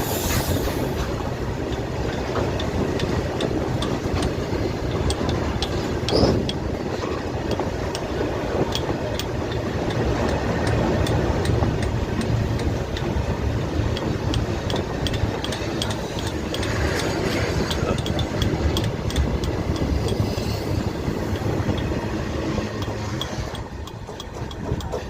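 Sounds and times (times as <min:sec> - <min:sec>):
train rumbling on track: 0:00.0 - 0:25.0
metallic clicks and rattles: 0:01.7 - 0:25.0.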